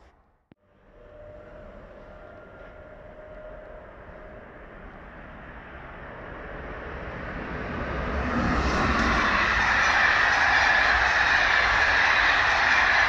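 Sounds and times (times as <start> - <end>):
train passing at speed: 0.6 - 13.0.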